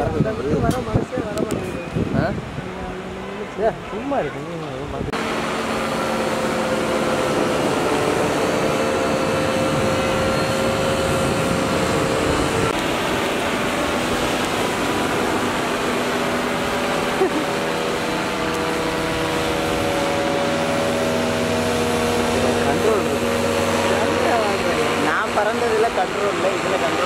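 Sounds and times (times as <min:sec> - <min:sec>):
paramotor engine drone: 0:04.9 - 0:27.0.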